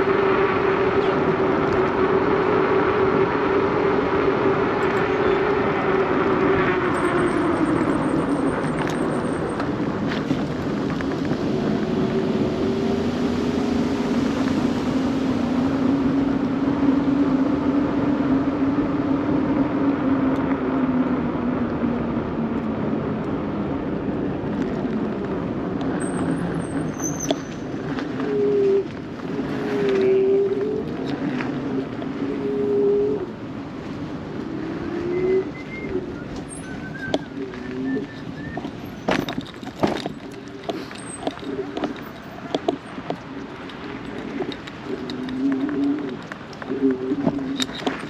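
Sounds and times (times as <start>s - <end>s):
bicycle rolling noise: 0.0s - 48.0s
rushing wind: 0.0s - 48.0s.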